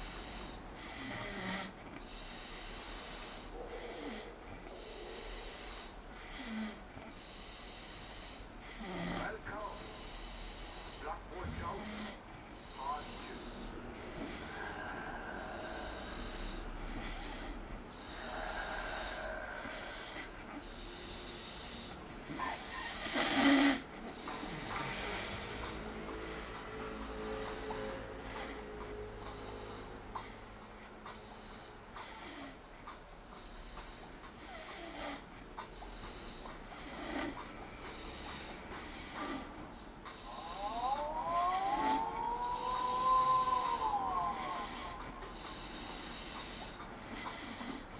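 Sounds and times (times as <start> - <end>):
man snoring: 0.0 - 30.4, 33.3 - 47.9.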